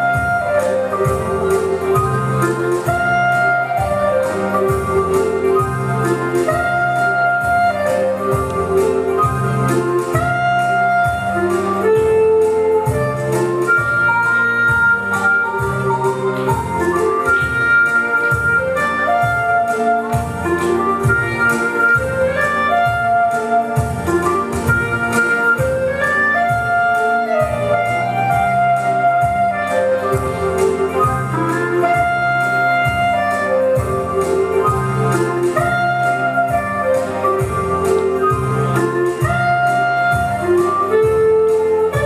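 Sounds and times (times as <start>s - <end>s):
instrumental music with wind melody: 0.0s - 42.0s.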